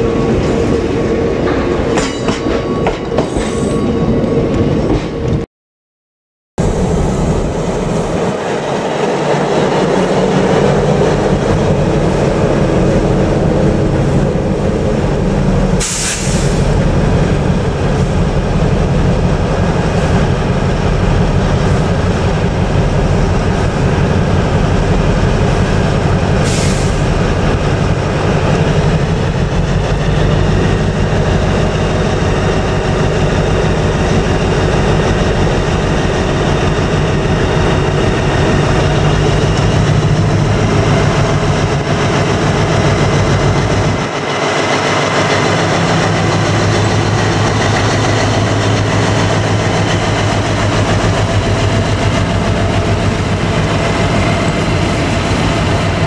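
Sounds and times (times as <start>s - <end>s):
diesel locomotive engine running: 6.6s - 56.0s.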